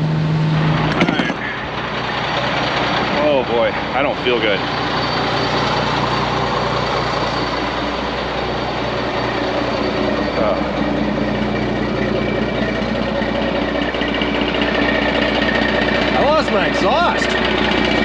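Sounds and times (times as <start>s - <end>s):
loud truck engine running: 0.0s - 18.0s.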